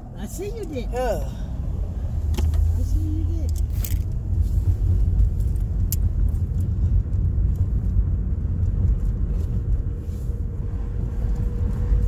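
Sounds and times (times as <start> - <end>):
car cabin engine and road rumble: 0.0 - 12.0.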